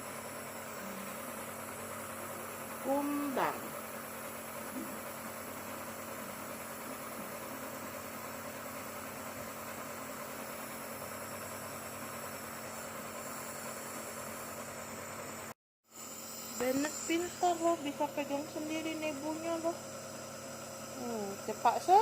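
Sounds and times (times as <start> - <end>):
nebulizer compressor humming: 0.0 - 22.0.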